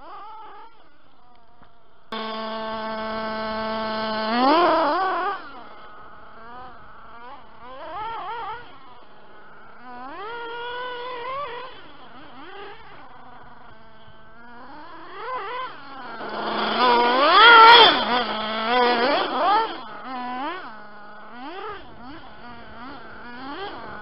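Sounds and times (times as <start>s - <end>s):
model car engine revving: 0.0s - 24.0s.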